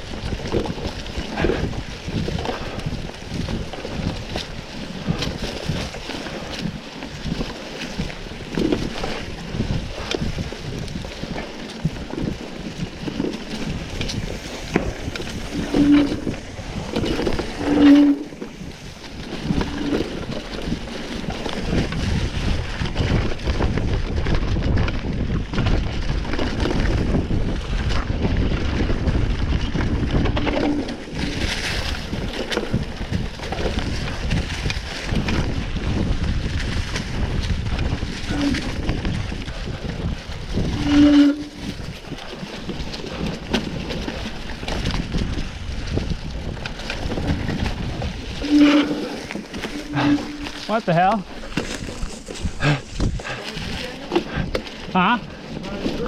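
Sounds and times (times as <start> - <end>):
tyres rolling on dirt trail: 0.0 - 56.0
wind buffeting microphone: 0.0 - 56.0.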